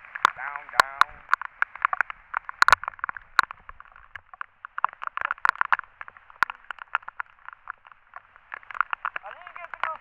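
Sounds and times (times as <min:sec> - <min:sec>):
heavy rain: 0:00.0 - 0:10.0
raindrops tapping on camera: 0:00.0 - 0:10.0.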